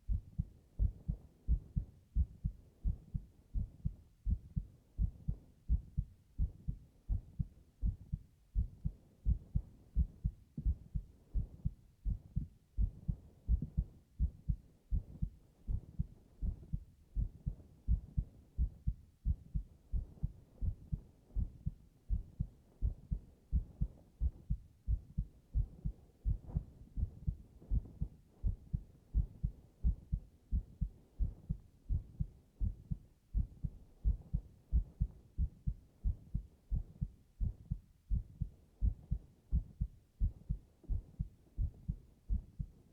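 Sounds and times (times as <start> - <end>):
heartbeat thumps: 0.0 - 42.8.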